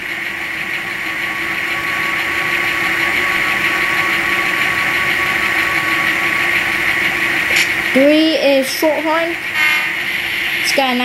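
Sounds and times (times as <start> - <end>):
diesel engine idling from small speaker: 0.0 - 11.0
thin steady whine: 0.0 - 11.0.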